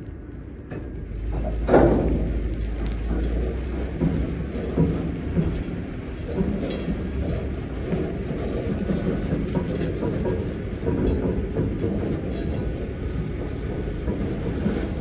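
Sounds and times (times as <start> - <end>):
railcar rumbling on track: 0.0 - 15.0
wheel and rail clicks: 0.0 - 15.0.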